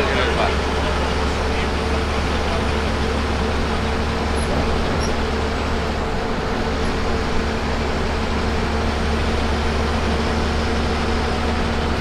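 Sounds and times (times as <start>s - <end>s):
bus engine hum: 0.0s - 12.0s
road and tyre noise: 0.0s - 12.0s.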